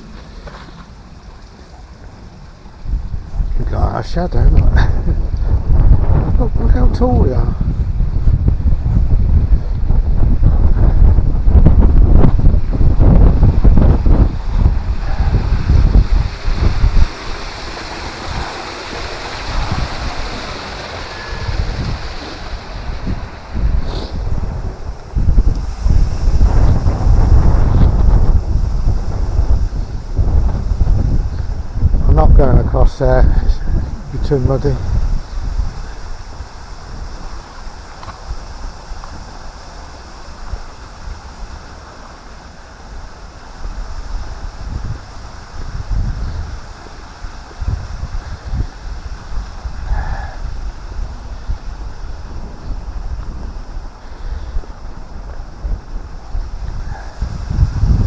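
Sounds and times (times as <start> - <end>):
rushing hiss: 0.0 - 58.0
wind buffeting microphone: 0.0 - 58.0.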